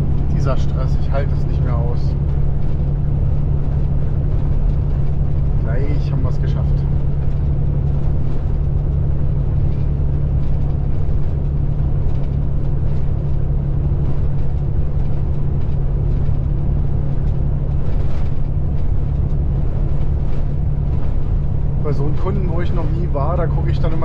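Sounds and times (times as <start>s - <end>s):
truck engine drone in cab: 0.0s - 24.0s.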